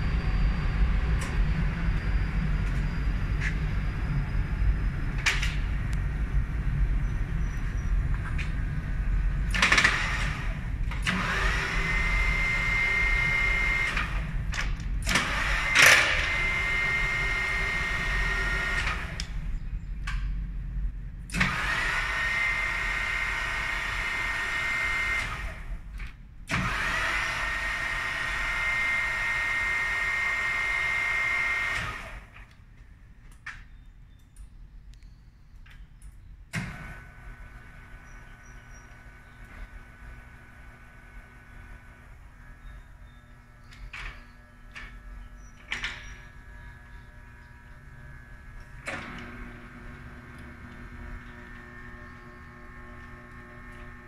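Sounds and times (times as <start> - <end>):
milling machine motor whine: 0.0 - 19.6, 21.3 - 32.6, 36.5 - 54.0.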